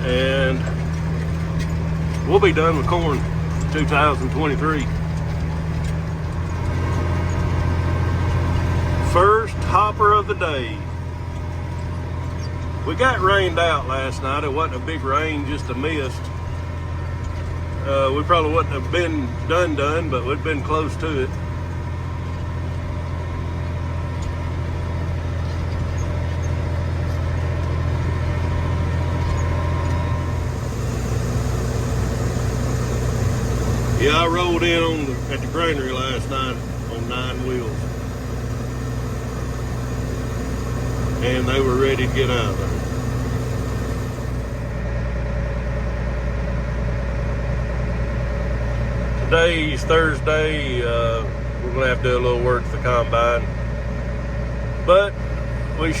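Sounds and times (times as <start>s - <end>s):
steady machine whine: 0.0s - 46.1s
diesel engine droning: 0.0s - 56.0s.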